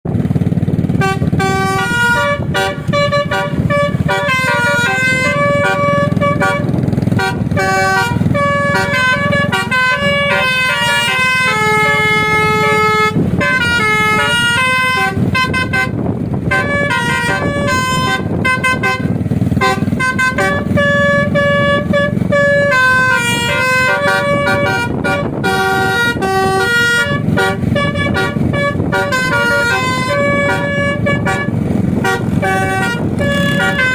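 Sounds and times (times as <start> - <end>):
steady low rumble: 0.1 - 33.9
musical air horn melody: 0.9 - 33.9.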